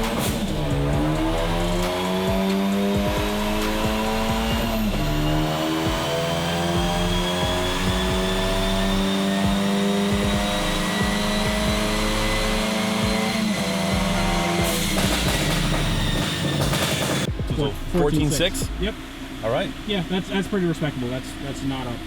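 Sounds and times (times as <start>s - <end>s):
turbocharged engine under full load: 0.0s - 22.0s.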